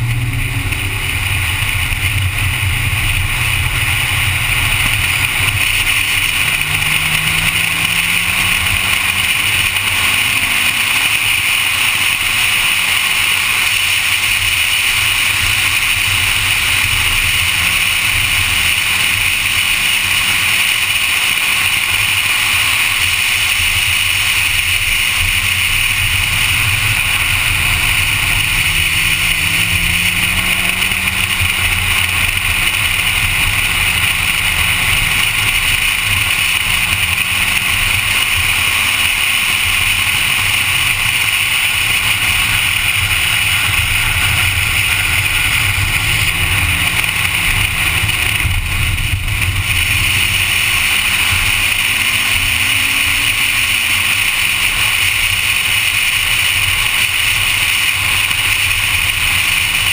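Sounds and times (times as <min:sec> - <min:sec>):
car engine running hard: 0:00.0 - 0:59.9
wind and road noise: 0:00.0 - 0:59.9.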